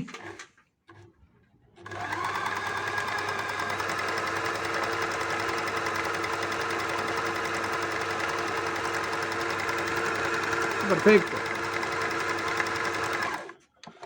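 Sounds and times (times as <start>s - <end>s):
electric sewing machine running: 1.8s - 13.6s.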